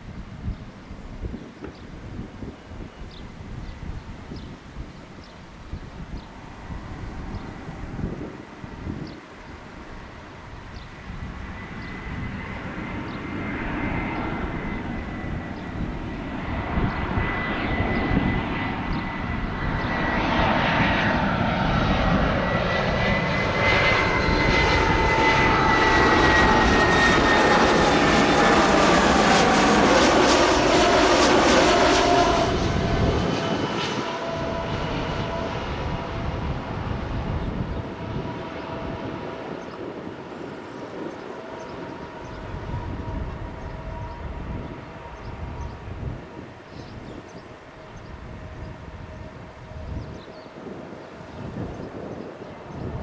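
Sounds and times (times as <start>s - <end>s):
jet airliner engine whine: 0.0s - 53.0s.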